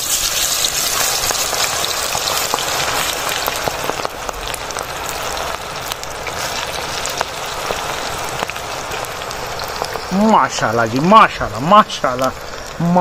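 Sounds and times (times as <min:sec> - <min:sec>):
batter deep-frying in oil: 0:00.0 - 0:13.0
oil crackles and pops: 0:00.0 - 0:13.0.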